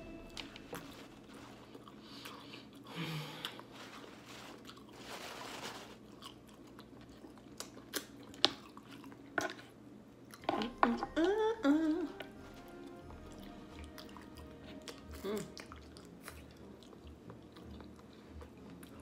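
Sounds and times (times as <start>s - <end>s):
chewing crunchy pepper: 1.2s - 10.8s, 12.4s - 19.0s.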